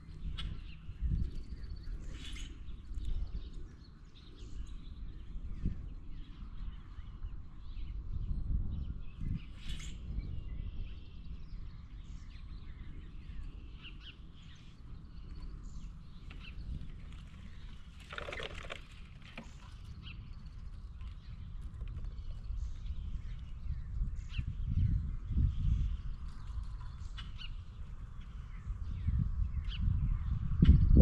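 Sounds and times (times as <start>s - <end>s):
low rumbling outdoor noise: 0.0s - 31.0s.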